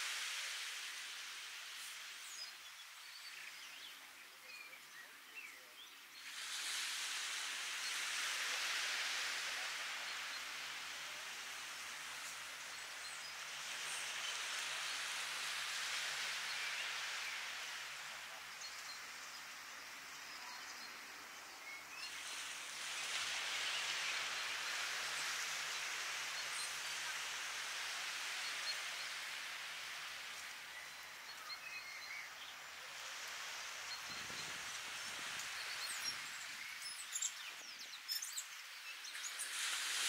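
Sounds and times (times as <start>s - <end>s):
ocean waves lapping on beach: 0.0s - 4.4s, 5.8s - 40.0s.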